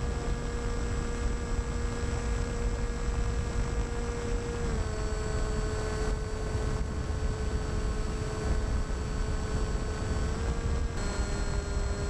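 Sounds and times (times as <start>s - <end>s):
wind rushing over camera: 0.0s - 11.0s
electric motor and propeller whine: 0.0s - 12.0s.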